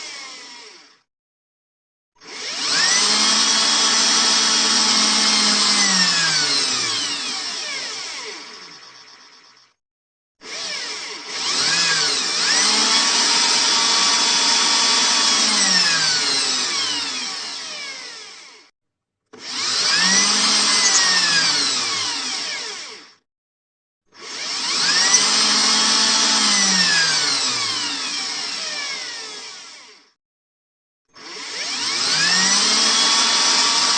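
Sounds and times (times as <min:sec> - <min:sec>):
electric drill motor spinning: 0:00.0 - 0:01.1, 0:02.2 - 0:09.7, 0:10.4 - 0:18.7, 0:19.3 - 0:23.2, 0:24.1 - 0:30.2, 0:31.2 - 0:33.9.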